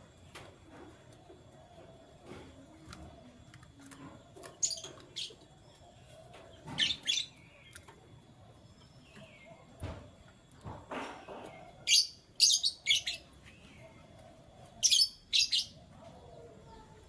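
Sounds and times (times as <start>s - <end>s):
canaries chirping: 1.8s - 10.0s, 10.6s - 17.0s.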